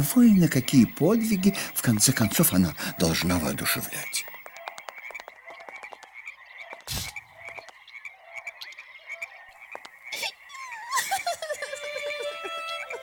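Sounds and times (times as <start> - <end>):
chorus of rapid clicking calls: 0.0 - 12.0.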